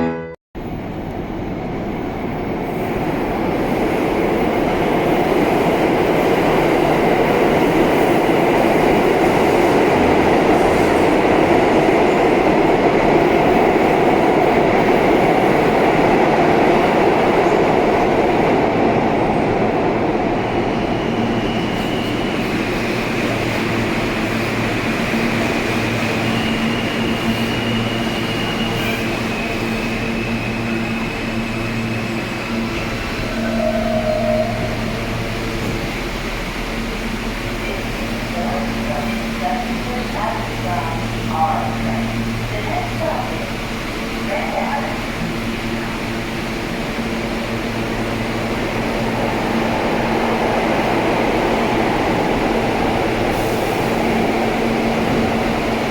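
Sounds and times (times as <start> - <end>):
rumble of train wheels on rail: 0.6 - 55.9.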